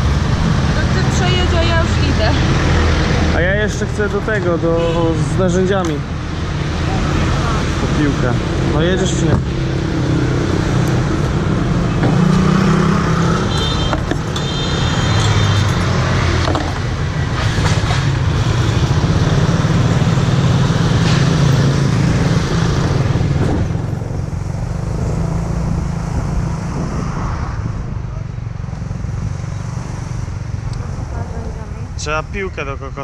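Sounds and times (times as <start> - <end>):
passing traffic hum: 0.0 - 33.0.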